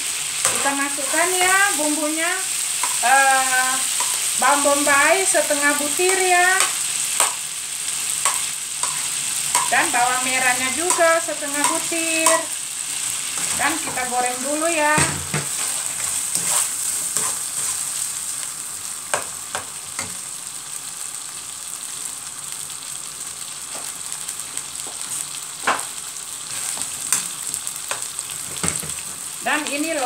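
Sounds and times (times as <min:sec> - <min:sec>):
onions sizzling in butter: 0:00.0 - 0:30.0.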